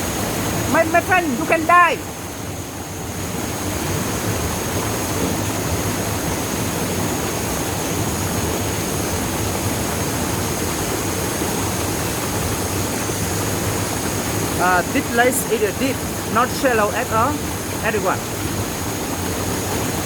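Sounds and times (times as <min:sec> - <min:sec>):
waterfall pouring into pool: 0:00.0 - 0:20.0.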